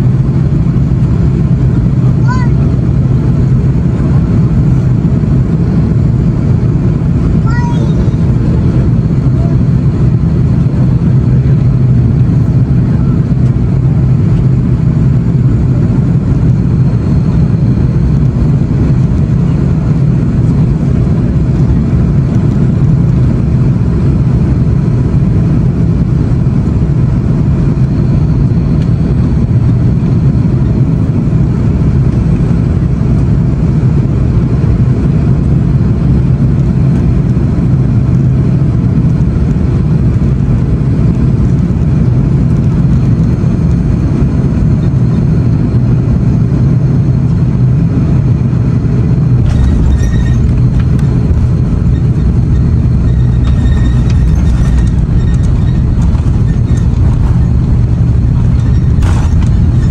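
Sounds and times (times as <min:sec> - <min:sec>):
aircraft cabin engine roar: 0:00.0 - 0:59.9
airflow rushing over wing: 0:00.0 - 0:59.9.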